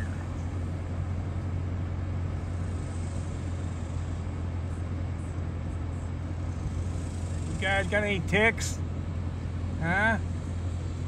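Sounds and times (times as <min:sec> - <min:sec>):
car engine hum from inside: 0:00.0 - 0:11.0.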